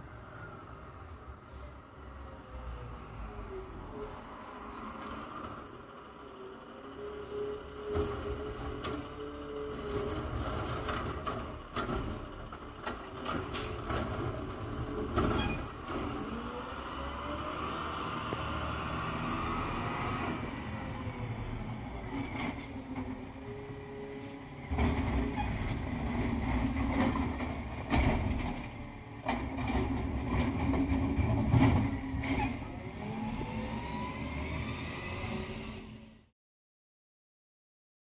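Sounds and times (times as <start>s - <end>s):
hydraulics whining: 2.5s - 36.2s.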